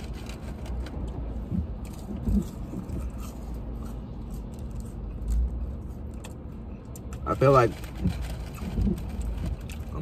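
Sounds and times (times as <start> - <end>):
person chewing fried food: 0.0 - 7.2, 7.8 - 10.0
low rumble of car cabin: 0.0 - 10.0.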